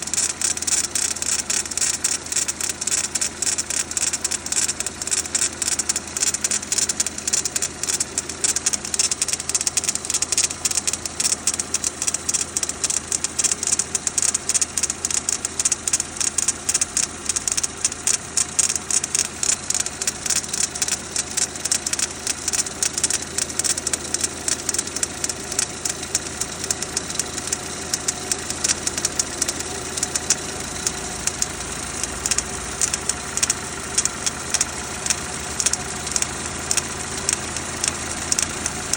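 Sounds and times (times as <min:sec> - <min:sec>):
car engine idling: 0:00.0 - 0:38.9
rapid metallic engine knock: 0:00.0 - 0:38.9.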